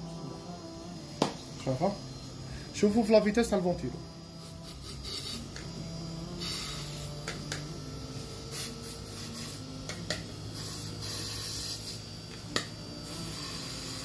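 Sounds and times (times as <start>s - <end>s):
fan motor humming: 0.0s - 14.0s.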